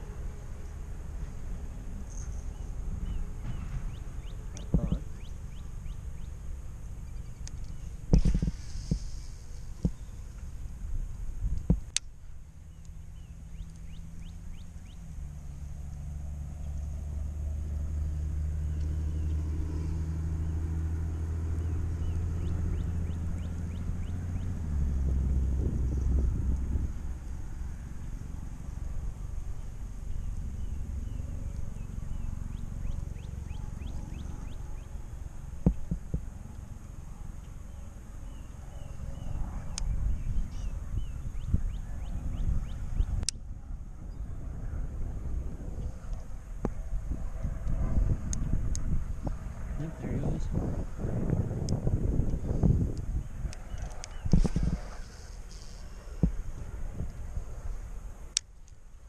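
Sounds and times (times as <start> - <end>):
helicopter rumble: 0.0 - 59.0
low engine drone: 0.0 - 59.0.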